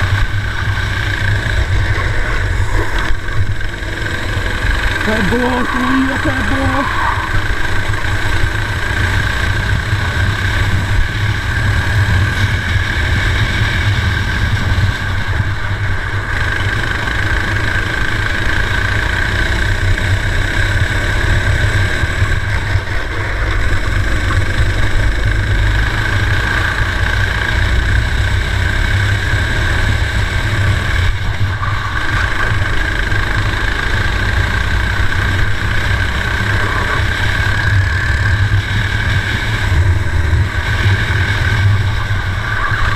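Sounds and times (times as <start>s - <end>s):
kart engine running hard: 0.0s - 42.9s.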